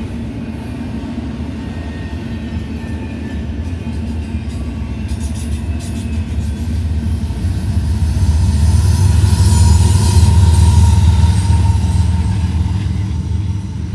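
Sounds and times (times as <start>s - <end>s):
diesel locomotive engine rumble: 0.0s - 13.9s.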